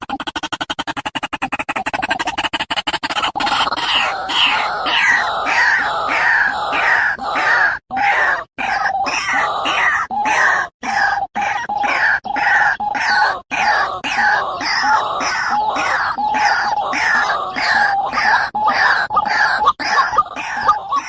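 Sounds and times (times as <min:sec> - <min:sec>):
waterhen croaking calls: 0:00.0 - 0:21.0.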